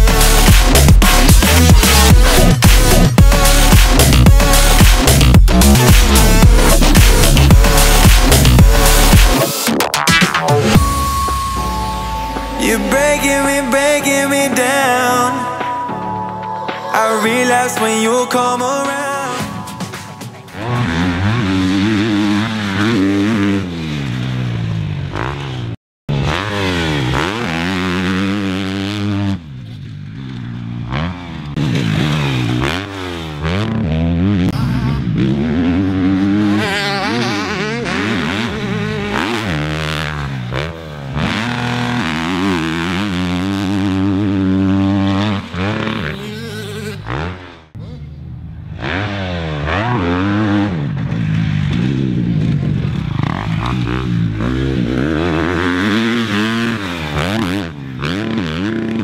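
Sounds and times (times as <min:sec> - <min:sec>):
motocross bike engine revving: 0:00.0 - 0:09.6, 0:20.5 - 0:59.0.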